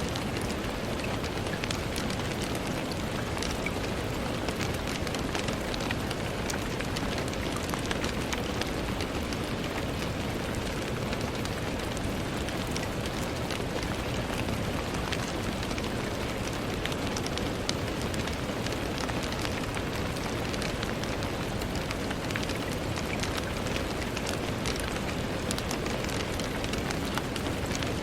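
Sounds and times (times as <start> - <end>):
rain pattering on window: 0.0 - 28.0.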